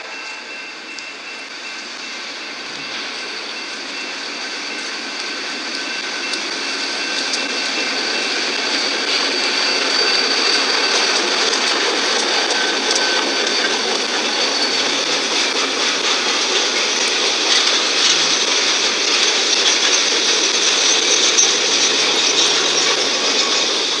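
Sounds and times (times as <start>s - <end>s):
model train running on rails: 0.0s - 24.0s.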